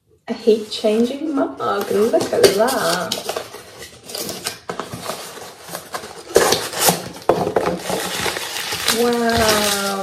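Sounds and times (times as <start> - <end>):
packing paper rustling: 0.6 - 10.0.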